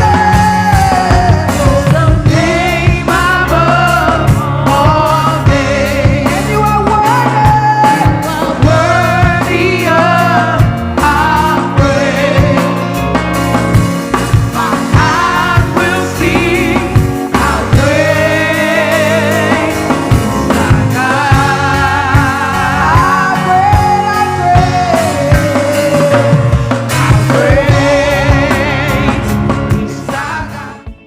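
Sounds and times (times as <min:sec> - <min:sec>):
person singing with vibrato: 0:00.0 - 0:13.2, 0:14.2 - 0:31.0
bass: 0:00.0 - 0:31.0
drum hits: 0:00.0 - 0:31.0.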